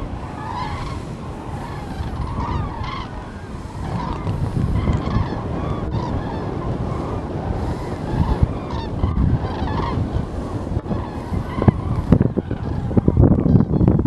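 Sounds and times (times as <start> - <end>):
cranes calling: 0.0 - 14.0
wind rumble on microphone: 0.0 - 14.0.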